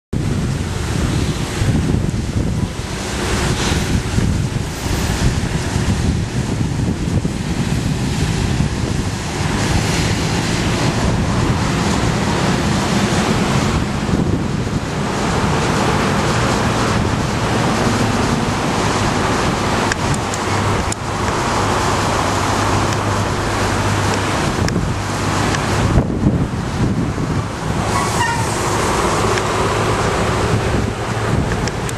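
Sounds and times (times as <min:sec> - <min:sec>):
wind buffeting microphone: 0:00.1 - 0:31.9
low engine drone: 0:00.2 - 0:31.9.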